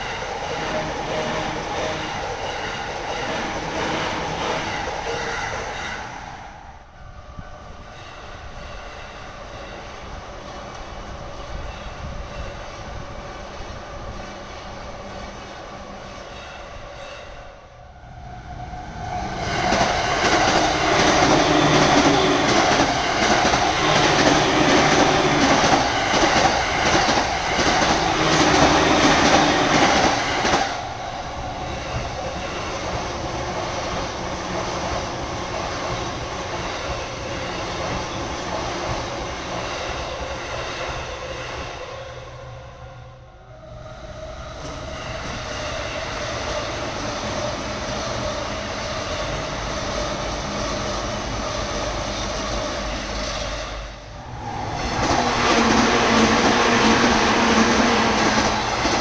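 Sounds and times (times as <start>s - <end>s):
electric train passing: 0.0s - 59.0s.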